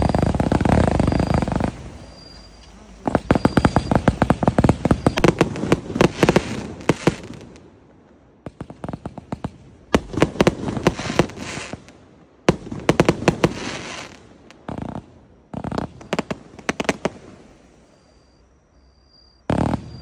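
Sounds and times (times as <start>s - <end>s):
firework cracks and pops: 0.0s - 17.7s, 19.5s - 20.0s.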